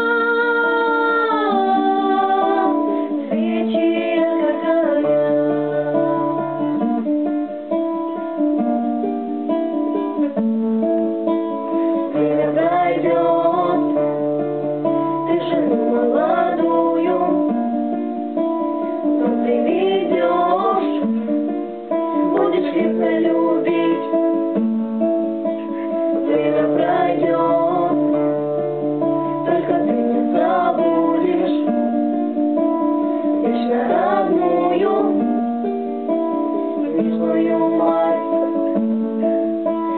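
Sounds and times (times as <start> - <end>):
guitar instrumental melody: 0.0 - 39.9.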